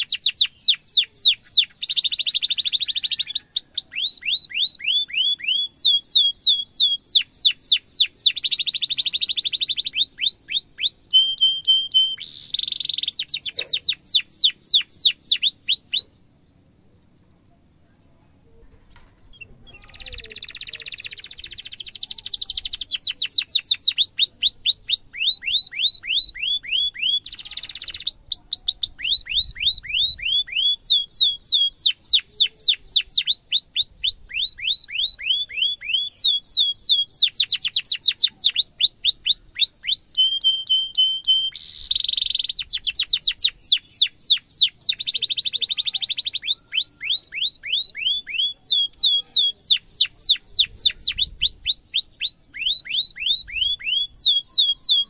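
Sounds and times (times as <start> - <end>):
canary singing: 0.0 - 17.3, 19.2 - 55.0.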